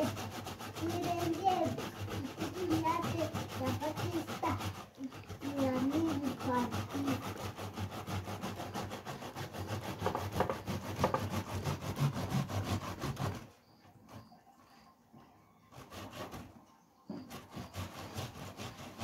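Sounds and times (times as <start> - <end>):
grating on metal grater: 0.0 - 14.4, 15.7 - 16.5, 17.2 - 19.0.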